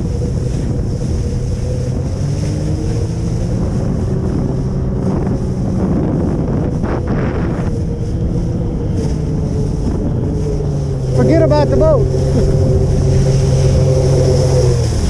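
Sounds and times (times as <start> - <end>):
motorboat engine running: 0.0 - 15.0
water sloshing: 0.0 - 15.0
wind noise on microphone: 0.0 - 15.0.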